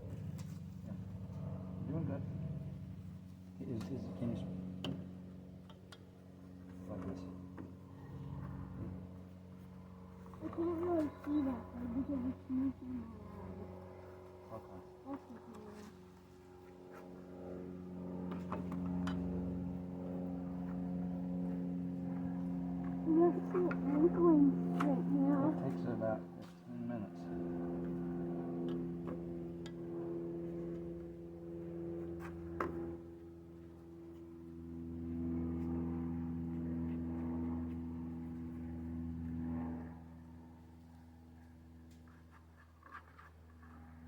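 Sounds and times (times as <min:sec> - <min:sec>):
engine-like drone: 0:00.0 - 0:44.0
motor hum: 0:04.4 - 0:42.0.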